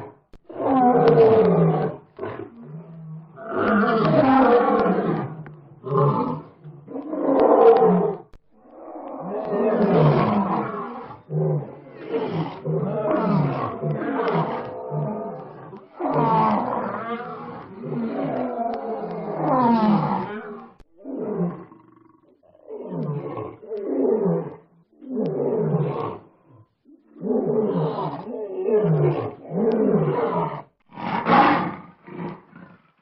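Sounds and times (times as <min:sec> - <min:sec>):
lion roaring: 0:00.0 - 0:33.0.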